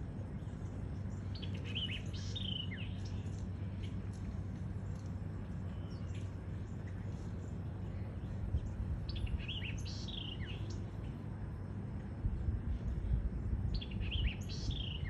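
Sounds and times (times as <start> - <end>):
low background noise: 0.0 - 15.0
small songbirds chirping: 0.0 - 15.0.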